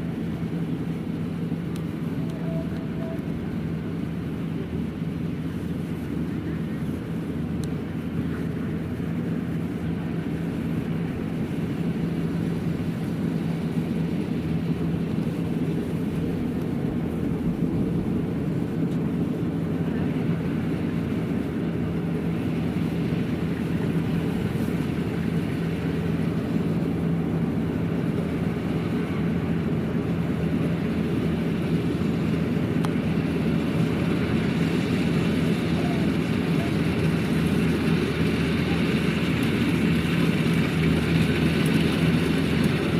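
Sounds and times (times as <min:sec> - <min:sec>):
combine harvester droning: 0:00.0 - 0:42.9.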